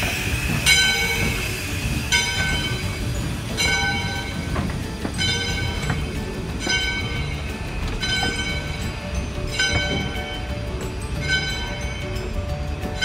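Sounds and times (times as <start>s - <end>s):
locomotive bell ringing: 0.0s - 13.0s
train wheels rumbling on rails: 0.0s - 13.0s.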